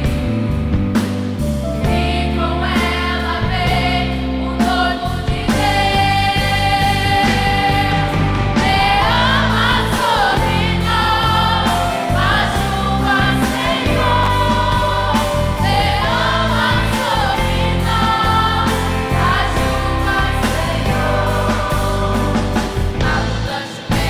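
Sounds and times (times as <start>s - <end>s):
choir singing gospel: 0.0s - 24.0s
instrumental accompaniment: 0.0s - 24.0s.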